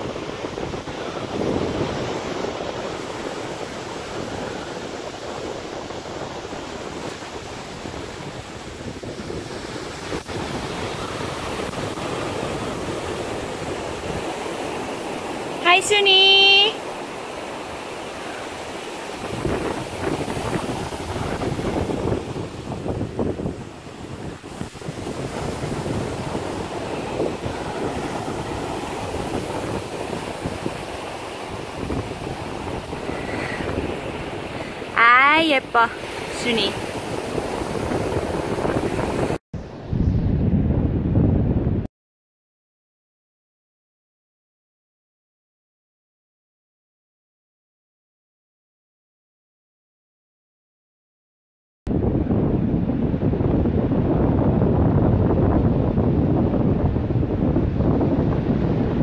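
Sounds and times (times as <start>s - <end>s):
wind buffeting microphone: 0.0s - 15.6s, 16.8s - 41.9s, 51.9s - 59.0s
ocean surf on sandy beach: 0.0s - 41.9s, 51.9s - 59.0s.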